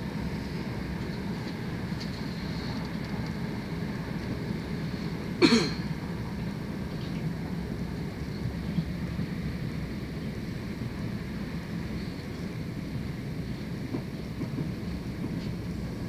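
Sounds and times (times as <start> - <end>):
train running noise: 0.0 - 16.0.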